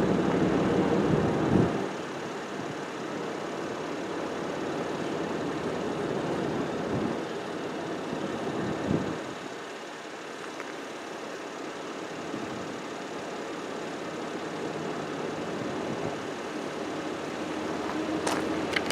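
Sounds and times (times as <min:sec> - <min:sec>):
road traffic noise: 0:00.0 - 0:18.9.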